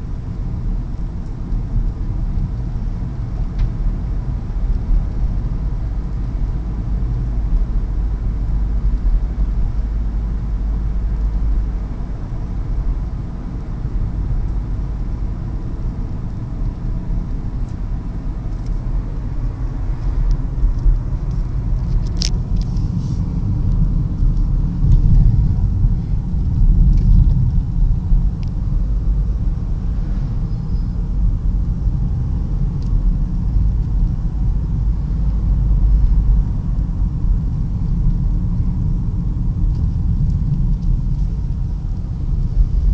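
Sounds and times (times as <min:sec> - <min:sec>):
car driving rumble: 0:00.0 - 0:42.9.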